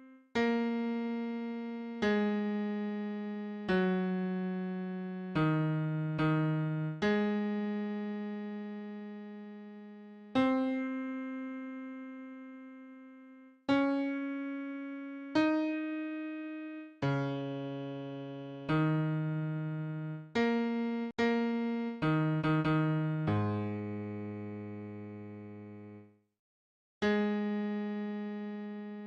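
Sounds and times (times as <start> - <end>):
low piano notes on keyboard: 0.0 - 26.1.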